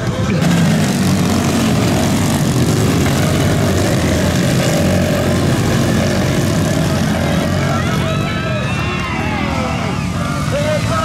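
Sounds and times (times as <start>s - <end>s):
atv engines buzzing: 0.0s - 11.0s.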